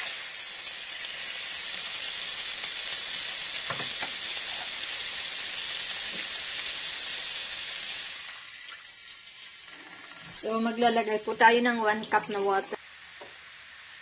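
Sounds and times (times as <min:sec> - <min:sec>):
food sizzling in a skillet: 0:00.0 - 0:14.0.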